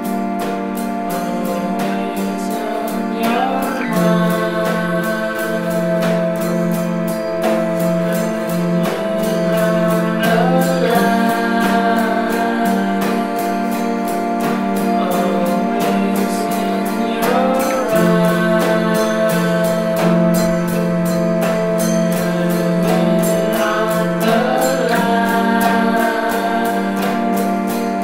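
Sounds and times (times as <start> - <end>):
held drone chord: 0.0 - 28.0
wavering sung line: 0.0 - 28.0.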